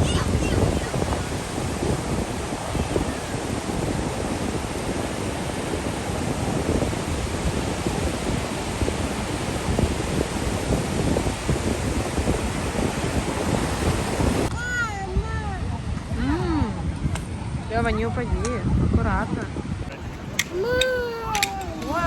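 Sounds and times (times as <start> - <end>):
ocean surf washing in: 0.0 - 15.8, 19.9 - 22.0
wind buffeting microphone: 0.0 - 22.0.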